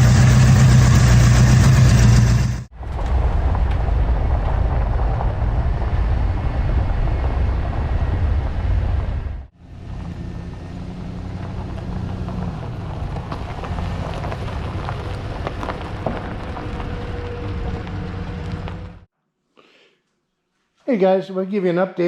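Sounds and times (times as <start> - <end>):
truck engine drone: 0.0 - 19.1.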